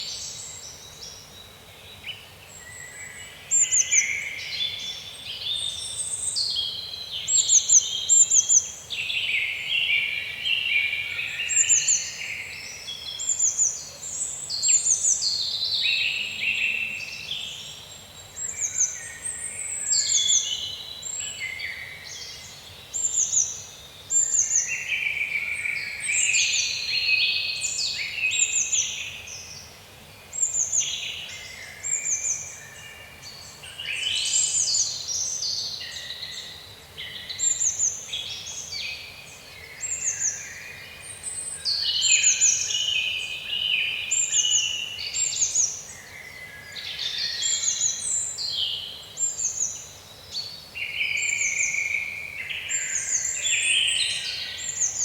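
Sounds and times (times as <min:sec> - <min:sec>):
songbirds chirping and whistling: 0:00.0 - 0:55.0.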